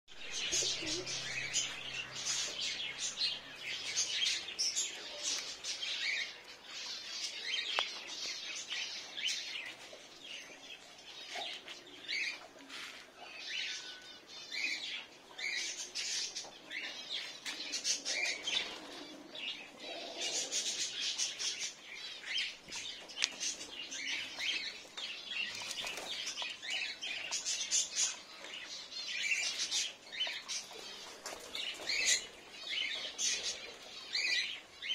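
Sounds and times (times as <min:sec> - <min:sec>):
caged birds chirping: 0:00.1 - 0:34.9.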